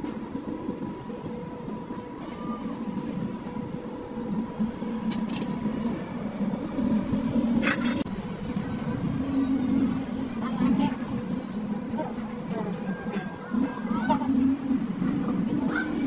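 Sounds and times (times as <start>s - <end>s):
machinery rumbling and humming: 0.0s - 16.0s.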